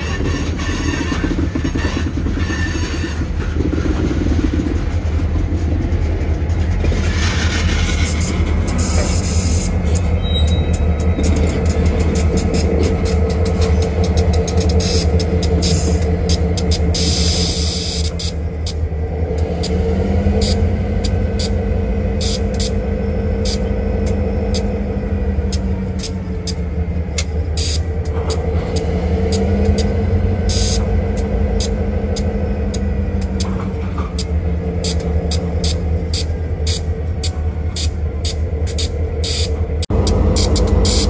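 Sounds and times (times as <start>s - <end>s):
locomotive engine rumbling: 0.0s - 41.0s.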